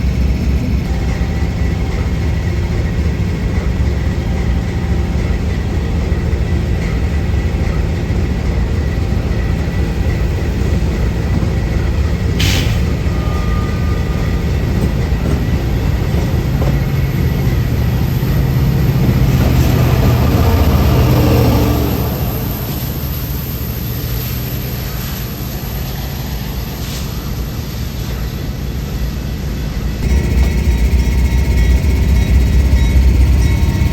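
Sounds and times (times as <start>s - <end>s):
train passing rumble: 0.0s - 33.9s.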